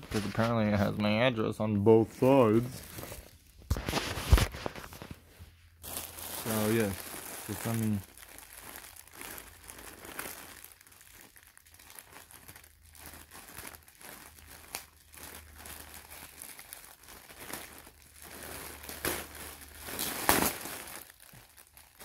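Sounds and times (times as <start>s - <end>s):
packaging crinkling: 2.2s - 5.2s, 5.8s - 22.0s.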